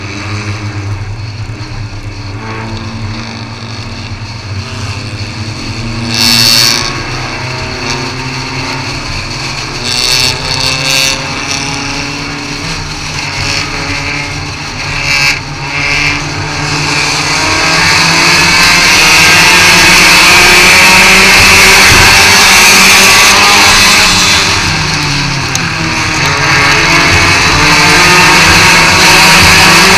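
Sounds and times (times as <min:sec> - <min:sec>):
loud rushes of noise: 0:00.0 - 0:29.9
race car engine: 0:00.0 - 0:29.9
wind roar at speed: 0:00.0 - 0:29.9.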